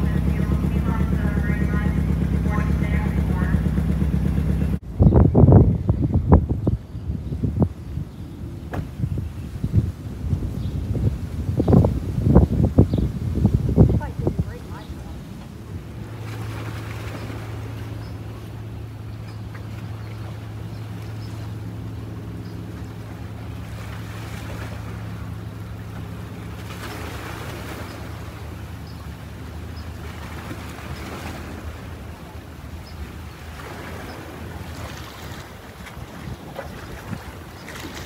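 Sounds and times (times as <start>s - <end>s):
boat engine humming: 0.0s - 38.0s
wind gusts on microphone: 0.0s - 38.0s.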